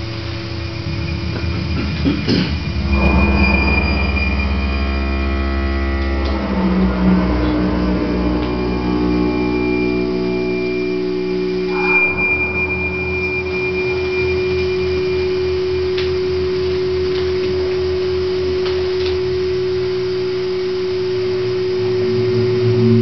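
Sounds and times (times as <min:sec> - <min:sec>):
thin high whistle: 0:00.0 - 0:06.3, 0:08.0 - 0:23.0
low pulsing throb: 0:00.0 - 0:23.0
synthesizer sine drone: 0:00.0 - 0:23.0.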